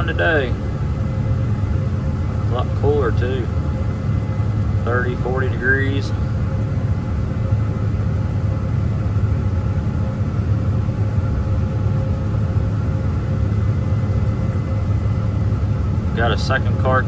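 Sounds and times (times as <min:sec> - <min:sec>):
diesel engine rumbling: 0:00.0 - 0:17.0
faint steady hum: 0:00.0 - 0:17.0.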